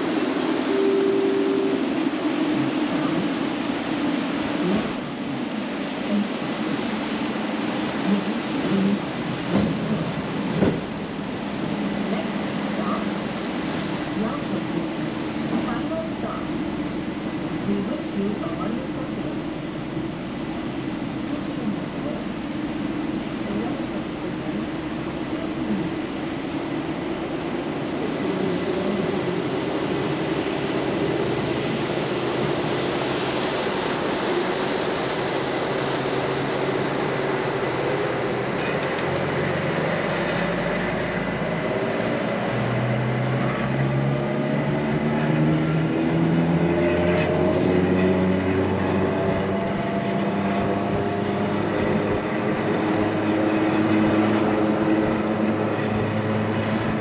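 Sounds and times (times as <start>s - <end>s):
train drive whine: 0.0s - 57.0s
train rumble and rail noise: 0.0s - 57.0s.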